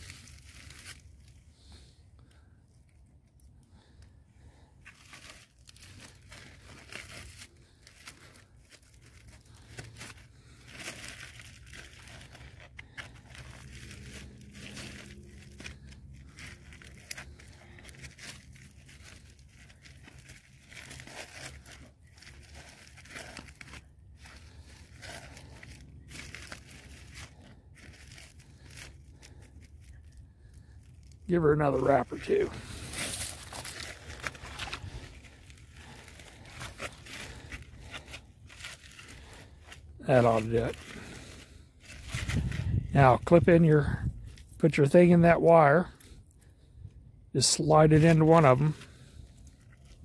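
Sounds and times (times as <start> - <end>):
plastic bag crinkling: 0.0 - 1.4, 3.8 - 42.8.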